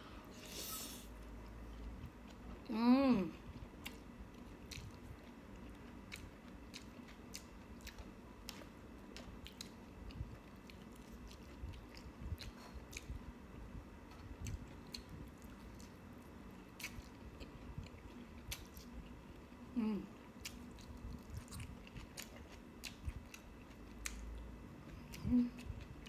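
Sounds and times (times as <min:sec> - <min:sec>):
close chewing of food: 0:03.4 - 0:13.4, 0:14.0 - 0:26.0.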